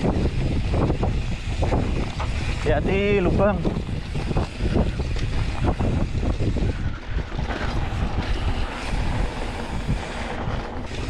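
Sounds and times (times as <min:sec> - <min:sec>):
bike rattling over bumps: 0:00.0 - 0:11.0
wind on microphone: 0:00.0 - 0:11.0.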